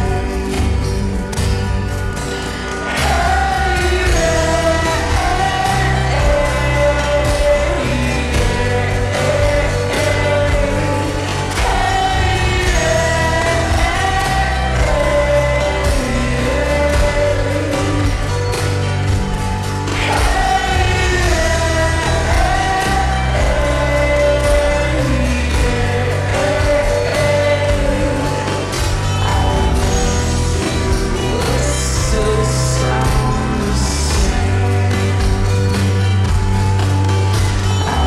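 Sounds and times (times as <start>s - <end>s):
full band accompaniment: 0.0s - 38.0s
person singing: 0.0s - 38.0s.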